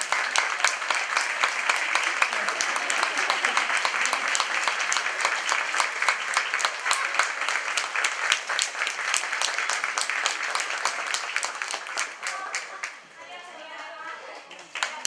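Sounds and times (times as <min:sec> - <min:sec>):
audience applauding: 0:00.0 - 0:13.1, 0:14.4 - 0:15.0.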